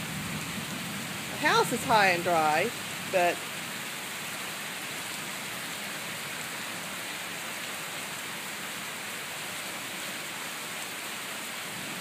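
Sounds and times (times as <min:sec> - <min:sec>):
steady rain: 0:00.0 - 0:12.0
water runoff rushing: 0:00.0 - 0:12.0.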